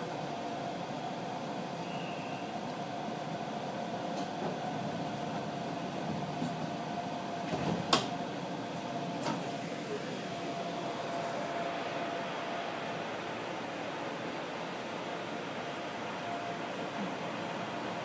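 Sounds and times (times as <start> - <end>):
low train rumble: 0.0 - 18.0.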